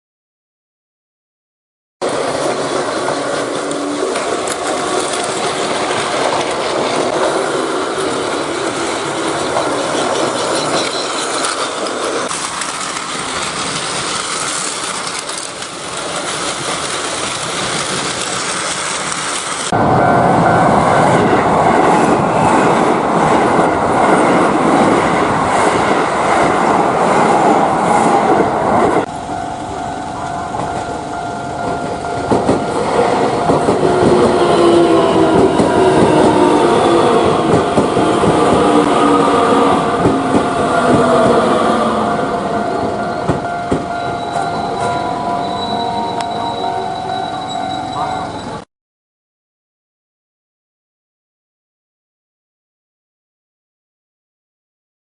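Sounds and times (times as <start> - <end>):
train rail clatter: 2.0 - 19.7, 20.4 - 48.6.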